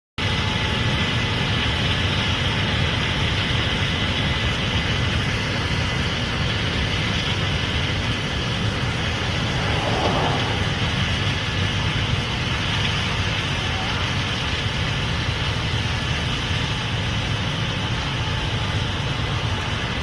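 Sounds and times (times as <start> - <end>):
combine harvester running: 0.3 - 20.0.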